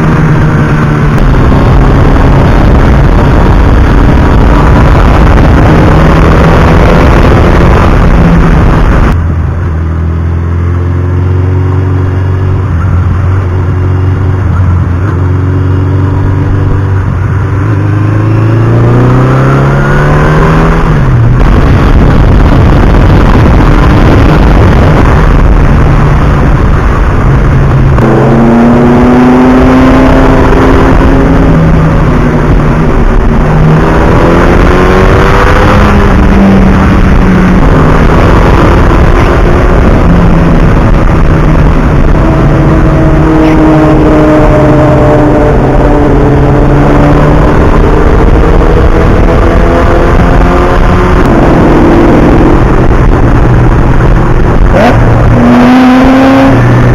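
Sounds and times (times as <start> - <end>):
constant rushing noise: 0.0 - 56.9
motorcycle engine revving: 0.0 - 56.9.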